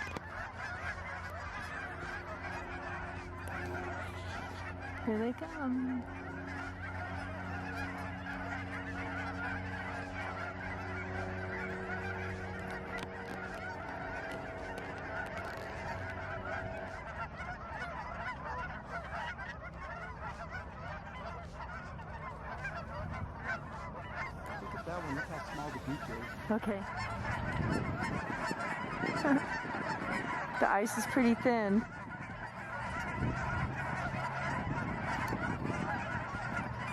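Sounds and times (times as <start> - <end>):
geese honking: 0.0 - 36.9
steady low hum: 0.0 - 36.9.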